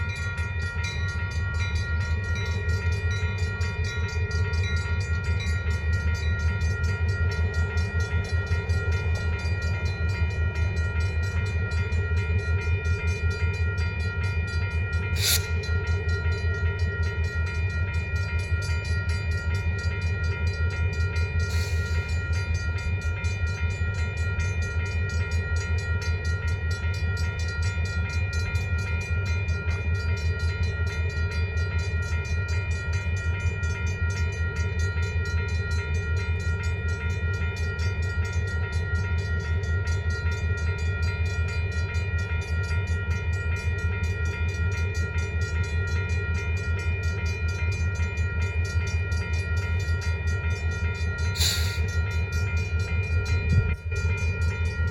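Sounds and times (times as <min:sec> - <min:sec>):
diesel locomotive engines droning: 0:00.0 - 0:54.9
railroad crossing bell ringing: 0:00.0 - 0:54.9.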